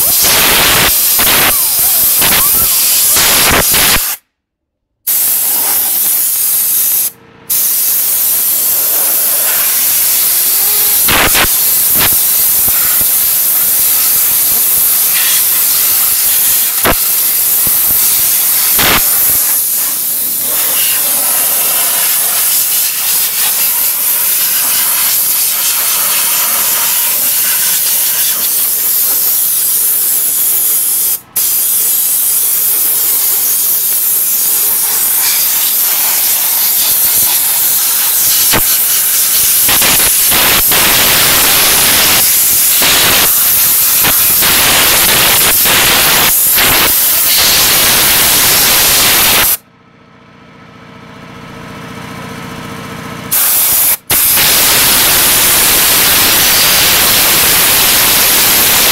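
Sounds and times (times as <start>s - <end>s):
compressed air hissing: 0.0s - 4.3s, 5.1s - 49.6s, 53.3s - 58.9s.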